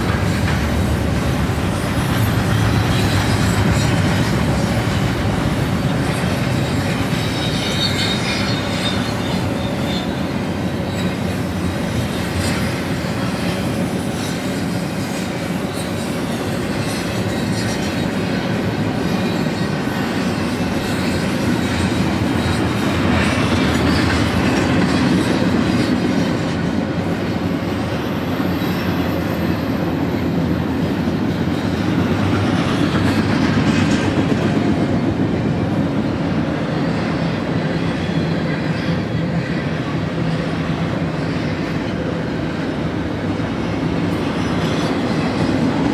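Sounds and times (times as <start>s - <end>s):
steel train wheels on rails: 0.0s - 45.9s.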